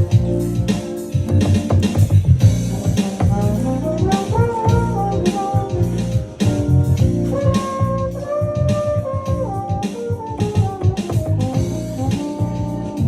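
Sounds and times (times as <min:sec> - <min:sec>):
drum machine beat: 0:00.0 - 0:13.0
electric piano: 0:00.0 - 0:13.0
keyboard bass: 0:00.0 - 0:13.0
trombone sliding melody: 0:00.0 - 0:13.0.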